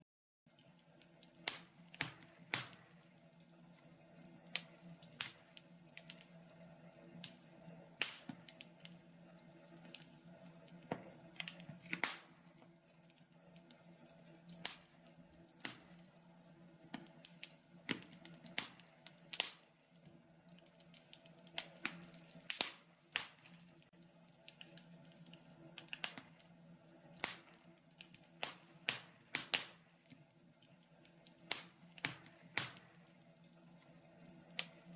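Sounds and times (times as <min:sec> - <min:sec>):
faint steady hum: 0:00.5 - 0:34.9
wood fire crackling: 0:00.5 - 0:34.9.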